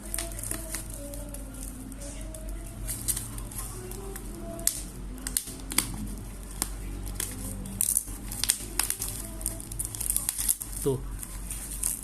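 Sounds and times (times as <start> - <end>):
packaging clicks and rustles: 0.0 - 12.0
steady low hum: 0.0 - 12.0.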